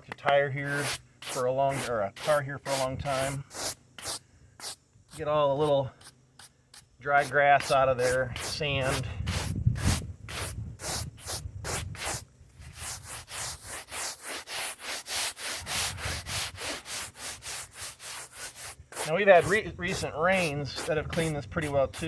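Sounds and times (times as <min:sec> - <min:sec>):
bristle brush scrubbing asphalt: 0:00.1 - 0:22.0.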